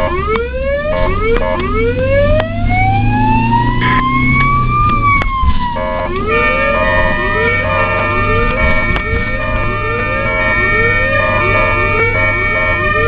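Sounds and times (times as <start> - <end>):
ambulance siren wailing: 0.0 - 13.0
low hum of traffic: 0.0 - 13.0.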